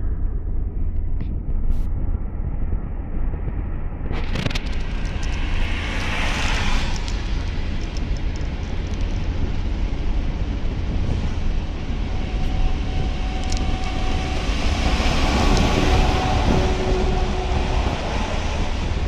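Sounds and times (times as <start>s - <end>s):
tyre and wind rumble: 0.0s - 19.0s.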